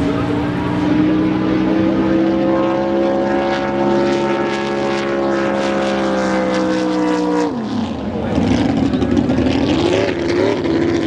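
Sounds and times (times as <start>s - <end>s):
boat engine at full throttle: 0.0s - 11.0s.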